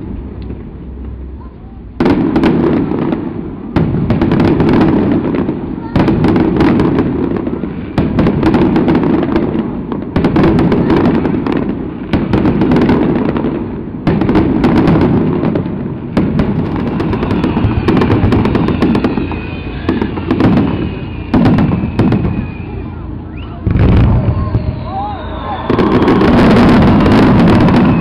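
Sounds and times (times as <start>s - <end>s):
fireworks booming and crackling: 0.0s - 28.0s.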